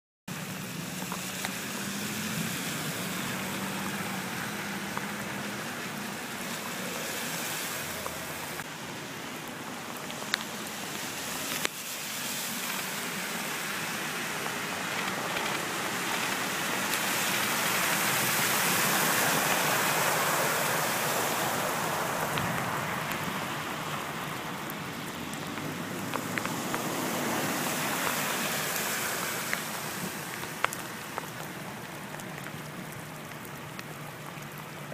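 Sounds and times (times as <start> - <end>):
car tyres hissing through water: 0.3 - 34.9
heavy rain falling: 0.3 - 34.9.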